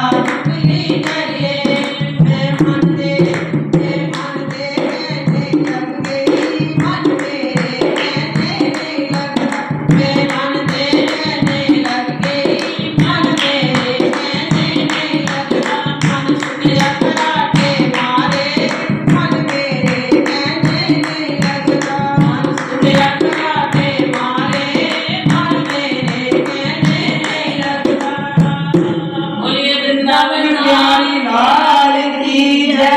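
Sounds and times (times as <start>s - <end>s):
percussion steady beat: 0.0s - 31.8s
devotional singing: 0.0s - 32.9s.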